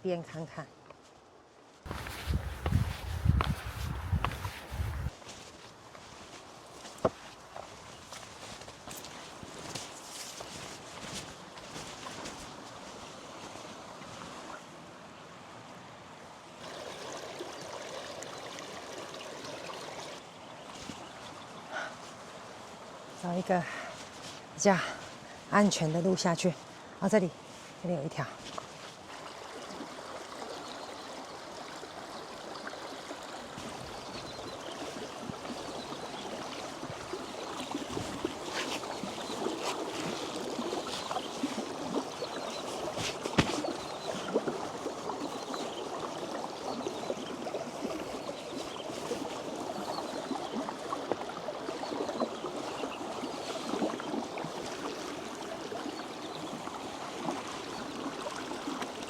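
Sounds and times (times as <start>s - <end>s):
stream gurgling over rocks: 1.8s - 59.0s.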